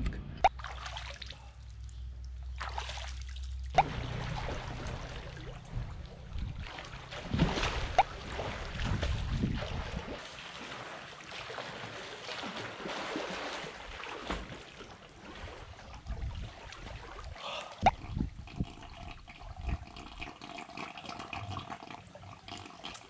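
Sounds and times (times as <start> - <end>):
pool water splashing: 0.4 - 23.0.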